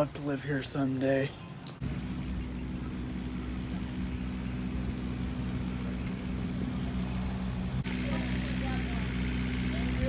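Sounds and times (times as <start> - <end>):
train engine idling hum: 1.8 - 10.0.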